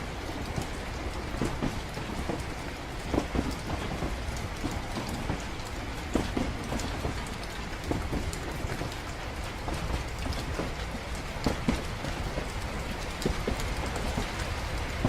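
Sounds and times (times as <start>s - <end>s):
moving train rumble: 0.0s - 15.0s
steady rain: 0.0s - 15.0s.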